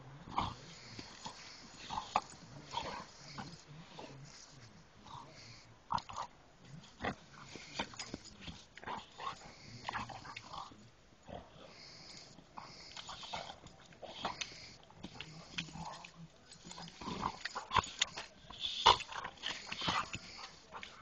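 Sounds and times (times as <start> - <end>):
dogs growling while play-fighting: 0.0 - 6.3, 6.9 - 21.0.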